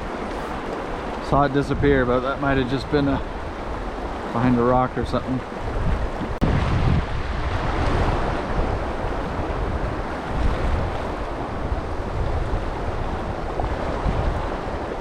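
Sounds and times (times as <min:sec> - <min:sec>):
mountain stream flowing: 0:00.0 - 0:15.0
wind buffeting microphone: 0:00.0 - 0:15.0.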